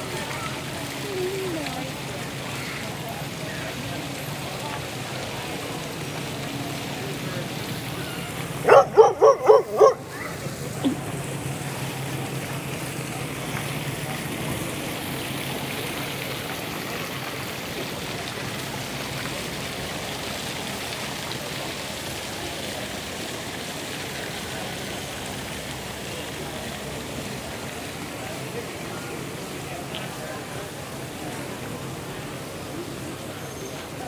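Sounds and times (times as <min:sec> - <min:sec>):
fountain splashing: 0:00.0 - 0:34.0.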